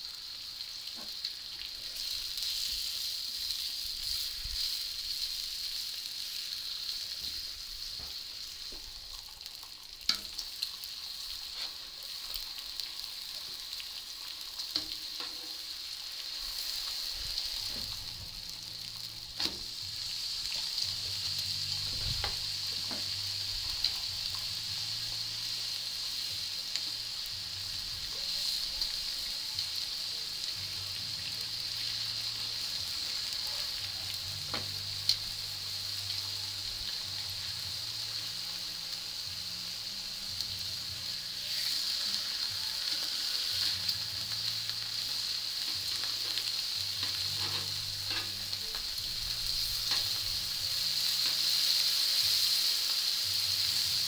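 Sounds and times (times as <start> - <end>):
meat sizzling on a griddle: 0.0 - 54.0.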